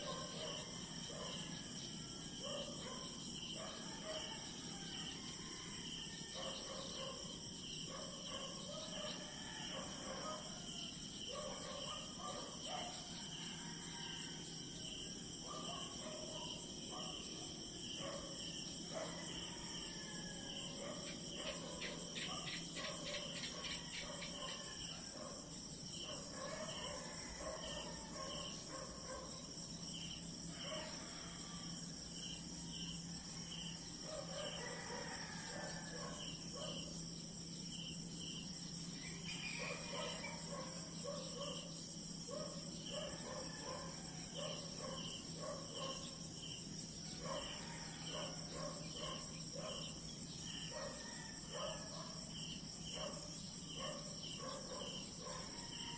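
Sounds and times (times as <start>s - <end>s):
crickets trilling: 0.0s - 55.9s
lower short insect calls: 0.0s - 55.9s.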